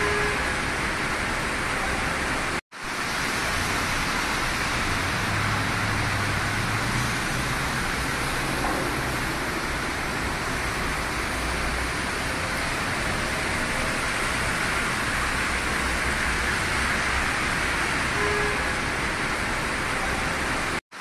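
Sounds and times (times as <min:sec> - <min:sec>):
heavy rain on a car: 0:00.0 - 0:21.0
tyres rumbling on wet road: 0:00.0 - 0:21.0.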